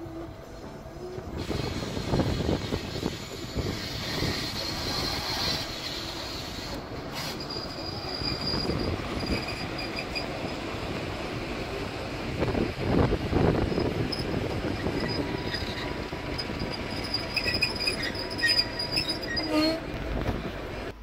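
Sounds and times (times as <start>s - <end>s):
diesel locomotive engine: 0.0s - 21.0s
wheels squealing on rails: 0.0s - 21.0s.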